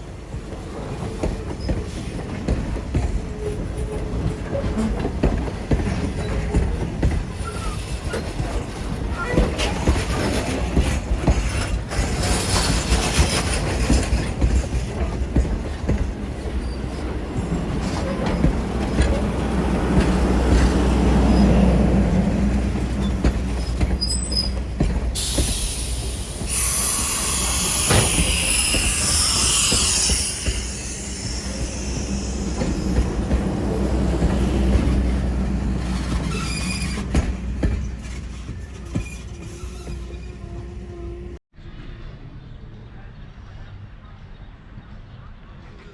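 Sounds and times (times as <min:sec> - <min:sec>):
steam train rumbling past: 0:00.0 - 0:42.5
wheels clicking over rail joints: 0:00.4 - 0:40.5.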